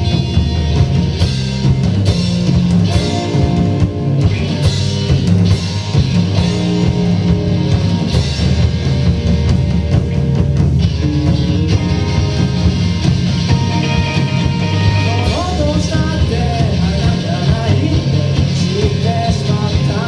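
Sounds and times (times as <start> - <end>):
drum kit: 0.0 - 20.0
electric guitars: 0.0 - 20.0.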